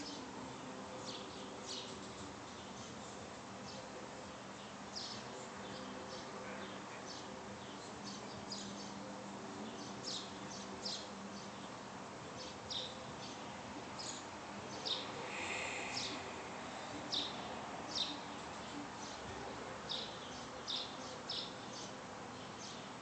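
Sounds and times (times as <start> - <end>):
birds chirping: 0.0 - 23.0
faint steady hum: 0.0 - 23.0.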